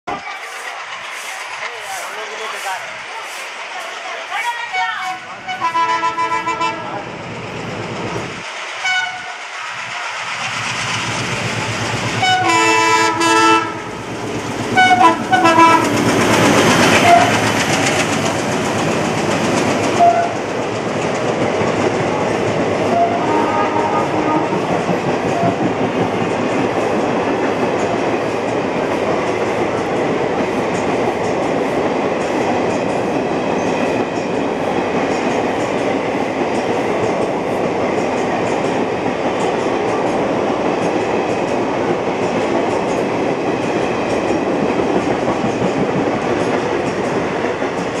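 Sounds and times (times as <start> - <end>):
train wheels rumbling on rails: 0.0 - 48.0
clickety-clack over rail joints: 0.1 - 48.0.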